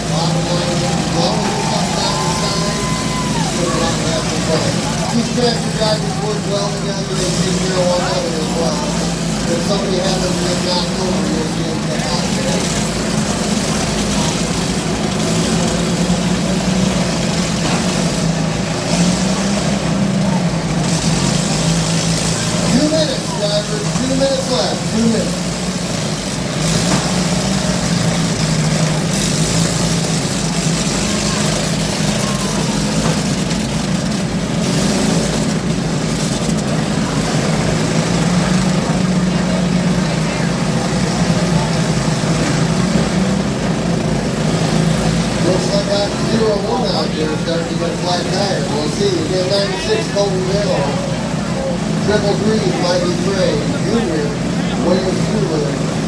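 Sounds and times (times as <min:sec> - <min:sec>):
lawn tractor engines droning: 0:00.0 - 0:56.0.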